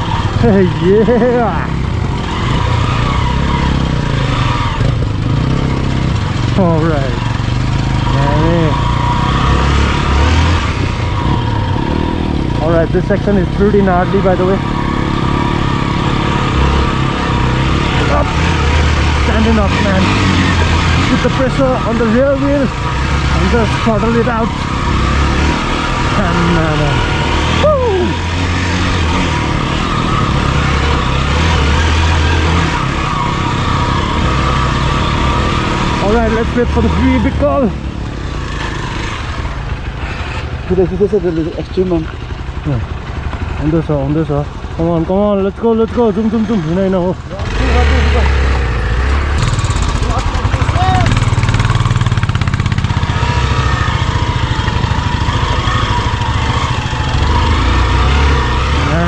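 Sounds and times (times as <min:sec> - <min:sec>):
off-road motorcycle engine: 0:00.0 - 0:59.0.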